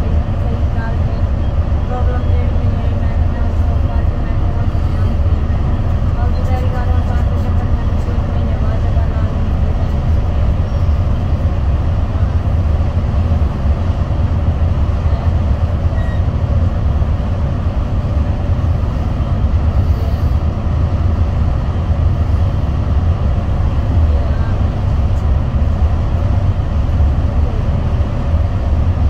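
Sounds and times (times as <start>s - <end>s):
vehicle interior road rumble: 0.0s - 29.0s.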